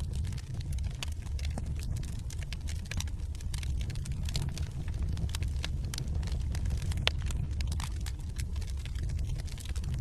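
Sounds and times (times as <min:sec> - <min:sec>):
crackles and pops of burning logs: 0:00.0 - 0:10.0
wood fire burning: 0:00.0 - 0:10.0.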